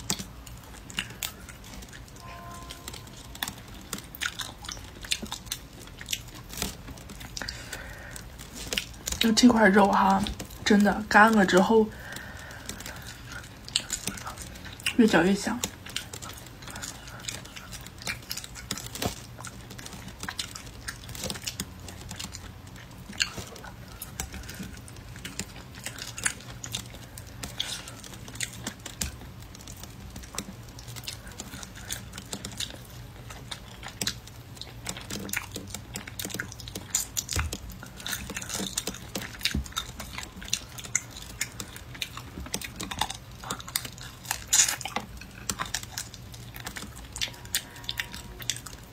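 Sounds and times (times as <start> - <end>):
chewing meat: 0.0 - 48.9.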